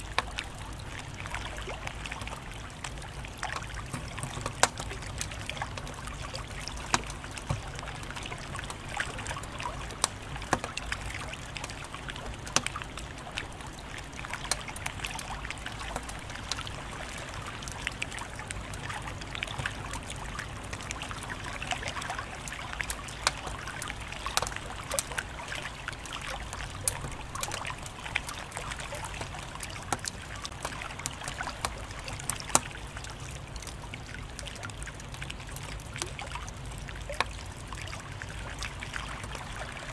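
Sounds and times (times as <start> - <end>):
wood fire crackling: 0.0 - 34.3.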